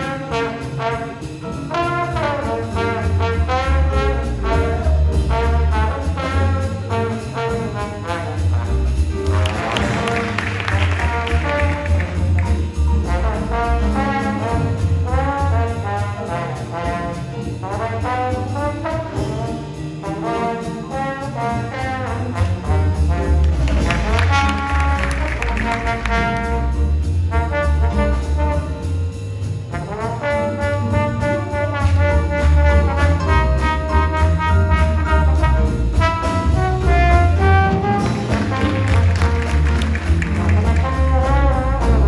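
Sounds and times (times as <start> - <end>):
jazz big band playing blues: 0.0 - 42.0.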